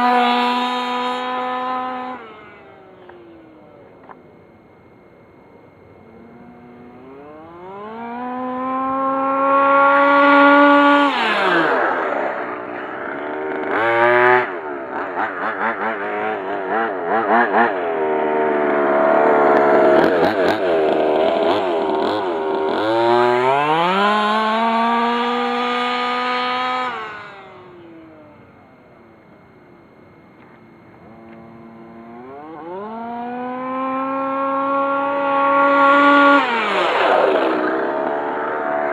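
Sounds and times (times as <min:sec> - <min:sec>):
two-stroke engine revving: 0:00.0 - 0:04.4, 0:05.9 - 0:29.0, 0:30.4 - 0:38.9.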